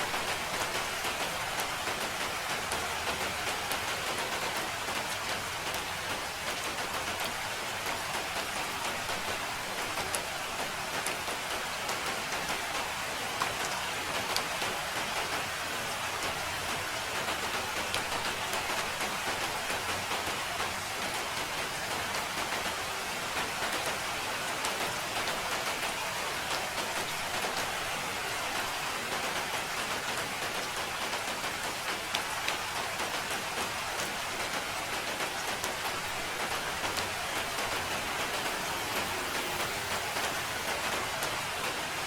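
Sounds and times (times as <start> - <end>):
rain drops ticking: 0.0 - 42.0
steady rain falling: 0.0 - 42.0.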